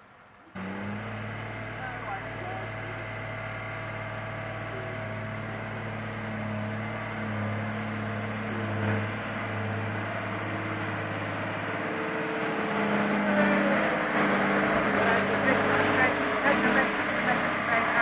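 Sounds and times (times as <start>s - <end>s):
crane diesel engine working: 0.0s - 18.0s.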